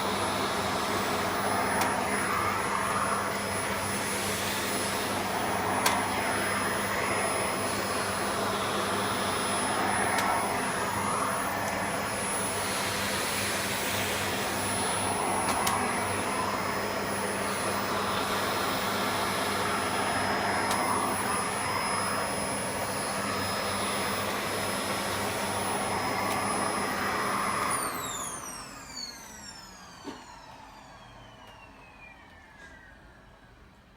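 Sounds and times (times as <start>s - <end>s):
vacuum cleaner motor whine: 0.0s - 33.9s.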